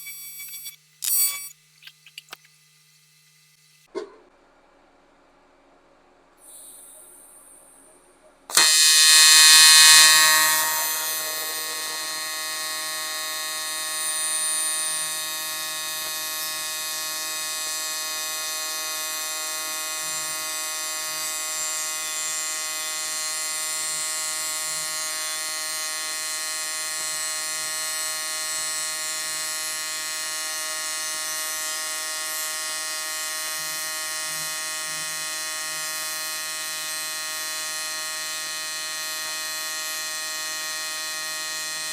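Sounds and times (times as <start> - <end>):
welding arc buzzing: 0.0 - 3.9, 8.5 - 41.9.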